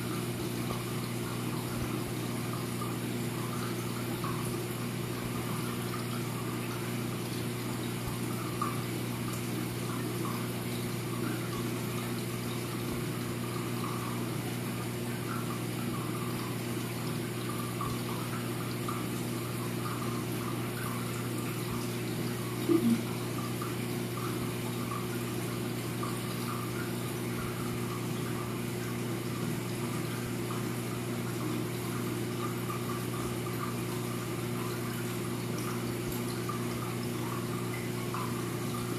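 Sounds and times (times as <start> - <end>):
pump hum: 0.0 - 38.9
water trickling and splashing: 0.0 - 38.9.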